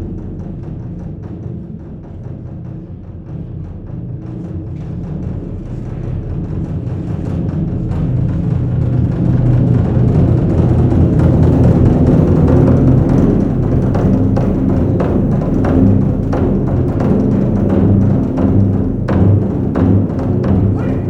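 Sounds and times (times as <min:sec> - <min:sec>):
deep drum rumble: 0:00.0 - 0:21.0
taiko drums played fast: 0:00.0 - 0:21.0.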